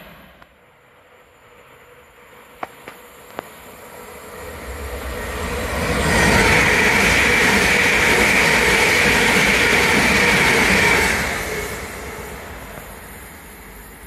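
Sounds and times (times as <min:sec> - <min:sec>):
train wheels rumbling on rail: 0:02.0 - 0:14.0.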